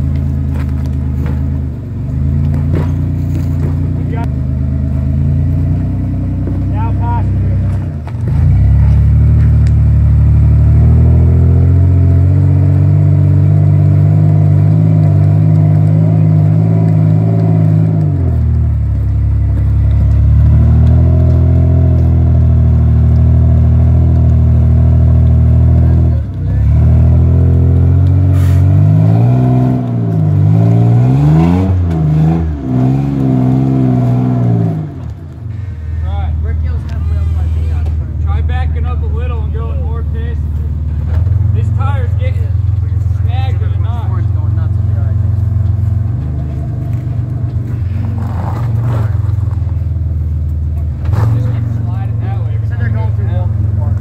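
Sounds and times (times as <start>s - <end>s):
truck engine pulling under load: 0.0s - 54.0s.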